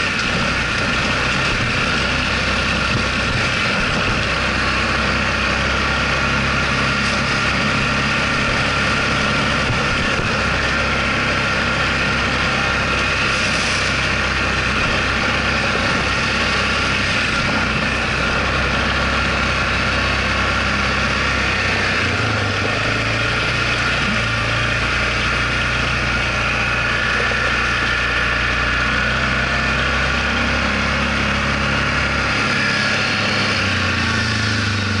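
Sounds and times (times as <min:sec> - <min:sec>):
quad bike engine droning: 0:00.0 - 0:35.0.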